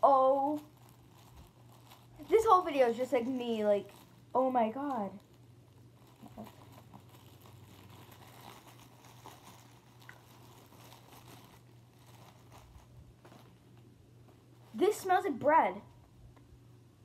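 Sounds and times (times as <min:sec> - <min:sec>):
plastic wrapper crinkling: 0:00.0 - 0:15.2
low steady hum: 0:00.0 - 0:17.0.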